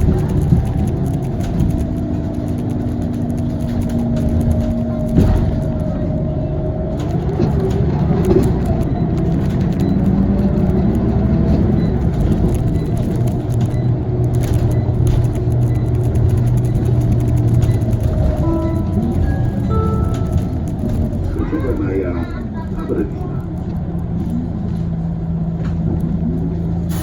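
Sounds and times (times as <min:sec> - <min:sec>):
bus engine running: 0:00.0 - 0:27.0
road noise: 0:00.0 - 0:27.0.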